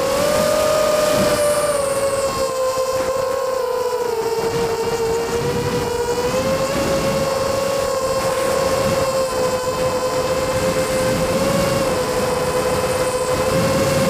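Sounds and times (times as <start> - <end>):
drone motors whining: 0.0 - 14.0
wind rushing over microphone: 0.0 - 14.0.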